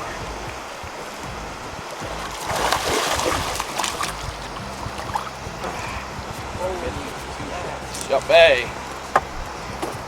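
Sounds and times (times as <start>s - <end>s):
low engine hum: 0.0s - 10.0s
water splashing: 0.0s - 10.0s.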